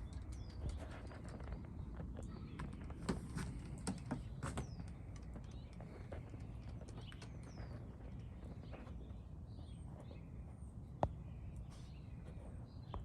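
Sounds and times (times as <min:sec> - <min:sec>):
faint chirping calls: 0:00.0 - 0:13.0.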